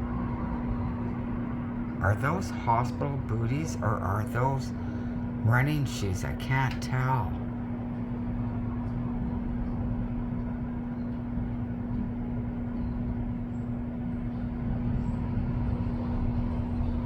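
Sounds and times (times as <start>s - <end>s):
constant hum: 0.0s - 17.0s.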